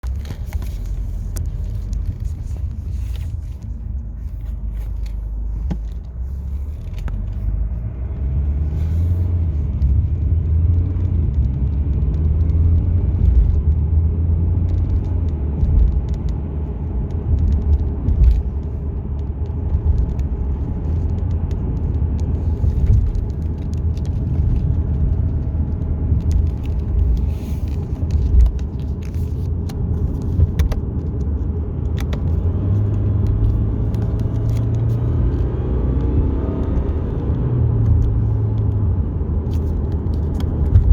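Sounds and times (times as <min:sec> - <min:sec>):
diesel car engine rumbling: 0:00.0 - 0:40.9.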